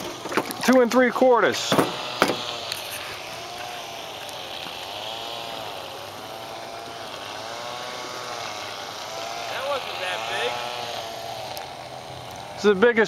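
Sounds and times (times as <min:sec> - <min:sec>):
motor whine rising and falling: 0:00.0 - 0:13.0.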